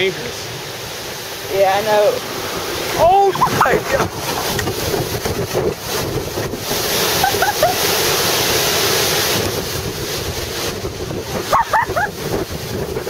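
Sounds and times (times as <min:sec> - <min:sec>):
wind buffeting microphone: 0:00.0 - 0:13.0
wind-driven rain rushing: 0:00.0 - 0:13.0.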